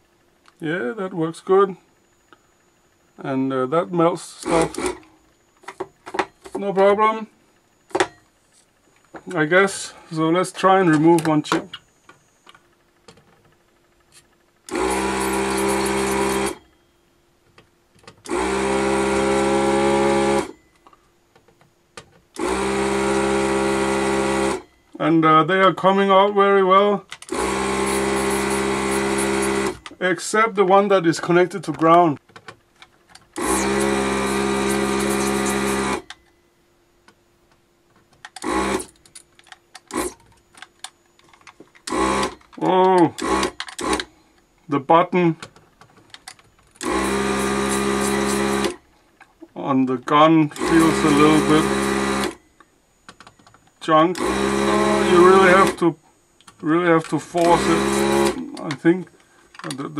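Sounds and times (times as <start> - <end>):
faint steady hum: 0.0 - 59.9
vacuum pump running: 0.0 - 59.9.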